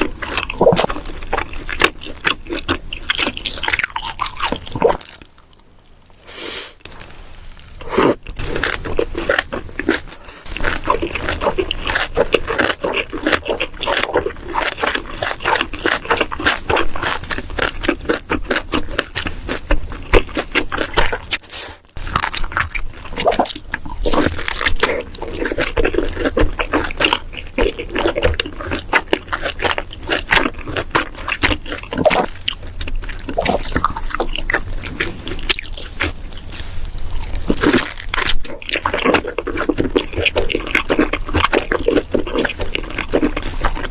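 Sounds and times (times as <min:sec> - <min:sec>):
wet chewing: 0:00.0 - 0:07.1, 0:07.9 - 0:21.4, 0:22.0 - 0:43.9.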